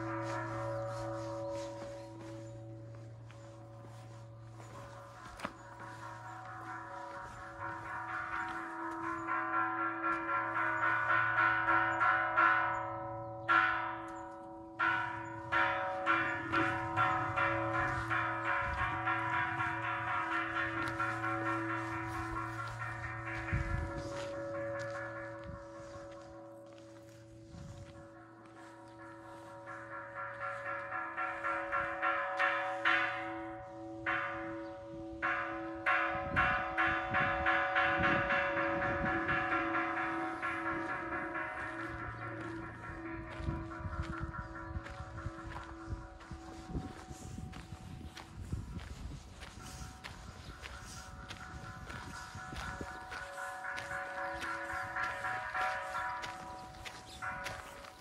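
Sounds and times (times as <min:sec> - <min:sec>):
metal bells ringing: 0:00.0 - 0:58.0.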